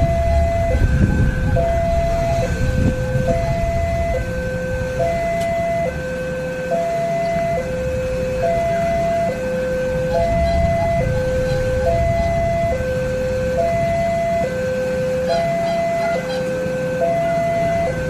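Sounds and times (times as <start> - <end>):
idling road traffic: 0.0 - 18.0
two-tone crossing alarm: 0.0 - 18.0.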